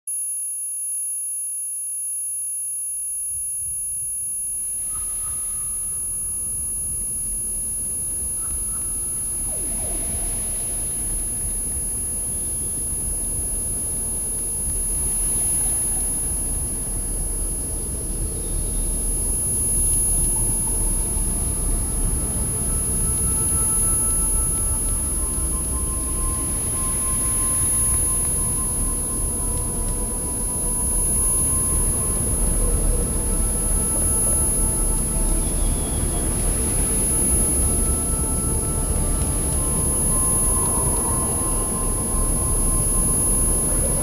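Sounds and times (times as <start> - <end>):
high-pitched sine tone: 0.0 - 44.0
low noisy drone: 3.3 - 44.0.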